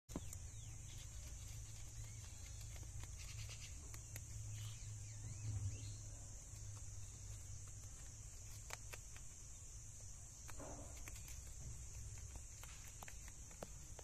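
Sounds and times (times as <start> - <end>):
rabbits nibbling leaf: 0.1 - 14.0.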